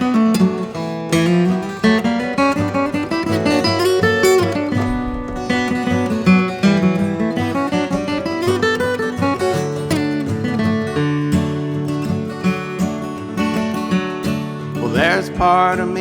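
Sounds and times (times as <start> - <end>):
acoustic guitar picking and strumming: 0.0 - 16.0.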